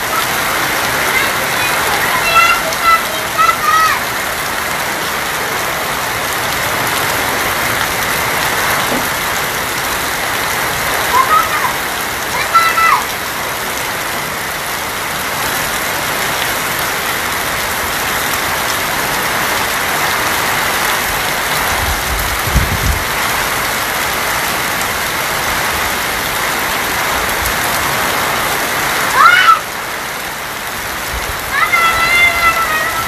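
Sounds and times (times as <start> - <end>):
heavy rain on a tin roof: 0.0 - 33.0.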